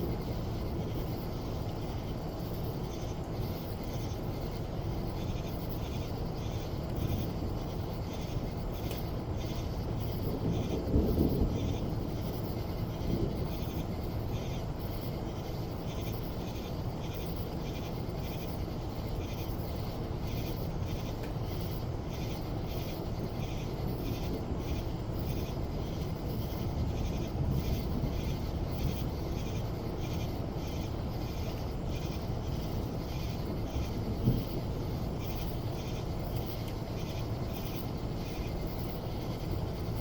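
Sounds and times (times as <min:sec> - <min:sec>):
steady rain: 0:06.7 - 0:19.1, 0:19.9 - 0:40.0.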